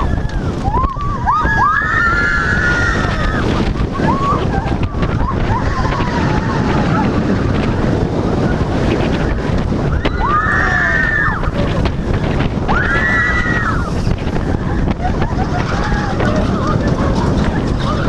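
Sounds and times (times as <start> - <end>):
riders screaming: 0.0 - 7.7, 9.3 - 18.0
roller coaster wheels rumbling: 0.0 - 18.0
wind buffeting microphone: 0.0 - 18.0.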